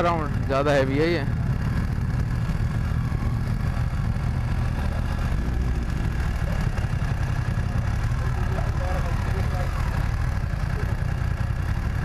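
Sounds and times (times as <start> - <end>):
motorcycle engine low rumble: 0.0 - 12.0.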